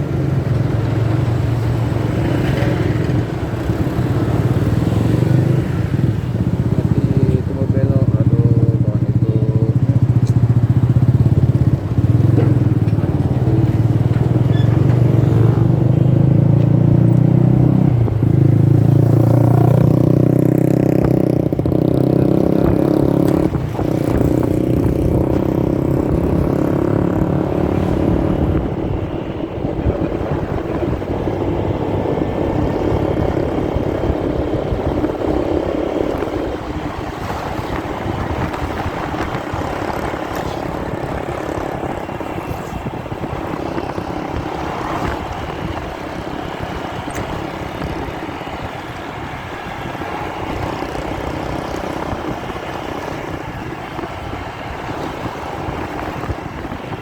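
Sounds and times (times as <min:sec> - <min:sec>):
muffled motorcycle engine: 0:00.0 - 0:57.0.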